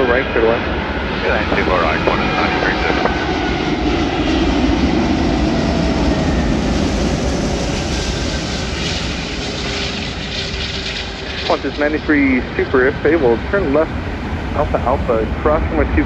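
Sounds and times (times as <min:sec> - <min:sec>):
jet engine roar with falling whine: 0:00.0 - 0:16.0.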